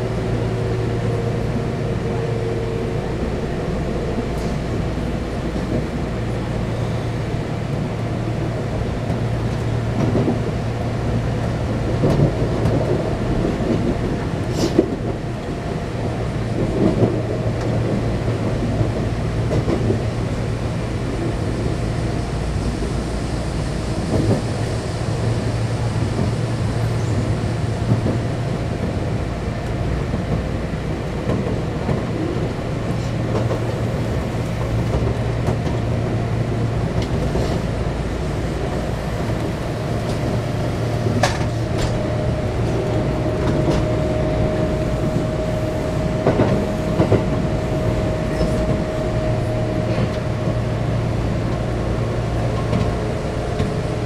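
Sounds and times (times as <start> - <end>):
train motor and wheel noise: 0.0 - 54.0.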